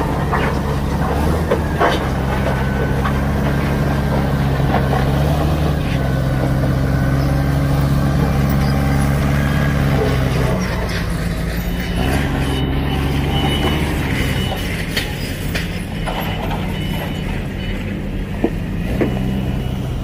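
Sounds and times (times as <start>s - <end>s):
forklift engine running: 0.0s - 20.0s.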